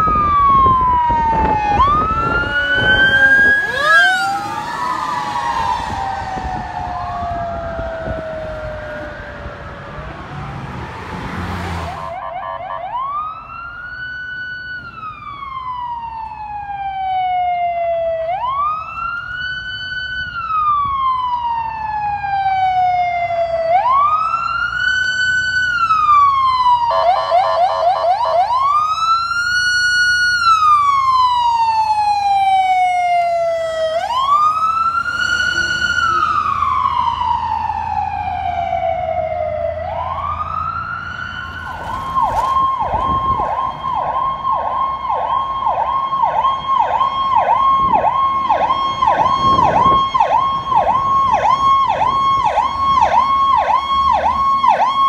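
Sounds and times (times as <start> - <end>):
emergency vehicle siren: 0.0 - 55.0.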